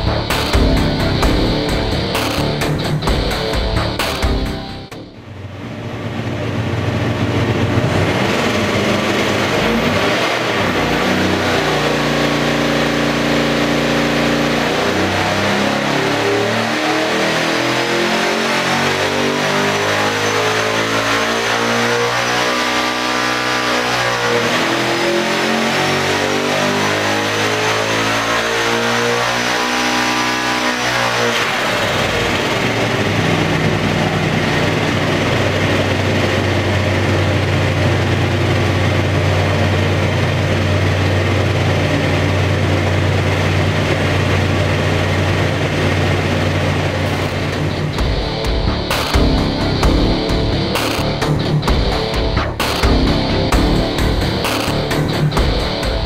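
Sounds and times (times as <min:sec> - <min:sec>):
supercharger whine: 0:00.0 - 0:56.0
racing engine revving under load: 0:05.3 - 0:56.0.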